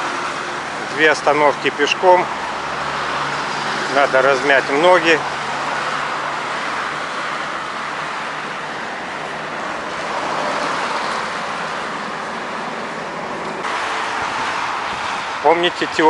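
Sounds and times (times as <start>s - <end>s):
cars passing on road: 0.0s - 16.0s.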